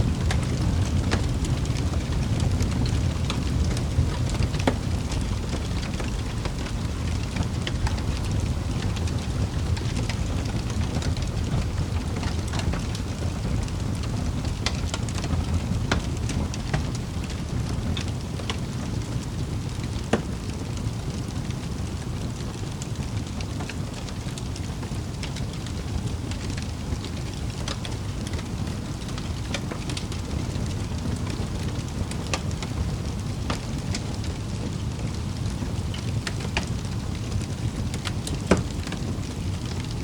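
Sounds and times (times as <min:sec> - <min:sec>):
fire rumbling: 0:00.0 - 0:40.0
wood fire popping and snapping: 0:00.0 - 0:40.0.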